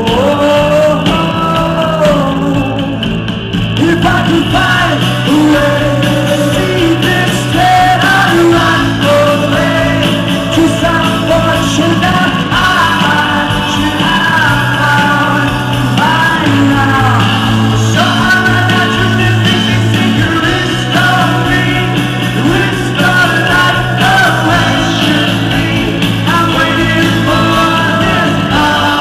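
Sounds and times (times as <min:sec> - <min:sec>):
lead vocals singing: 0:00.0 - 0:29.0
rock band playing live: 0:00.0 - 0:29.0.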